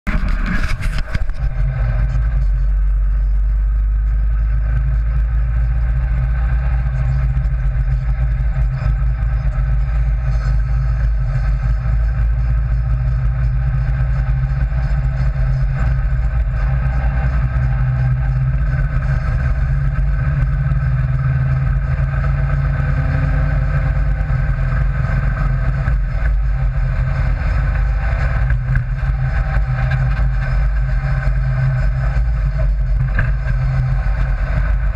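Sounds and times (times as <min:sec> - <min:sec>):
engine droning while driving: 0:00.1 - 0:34.9.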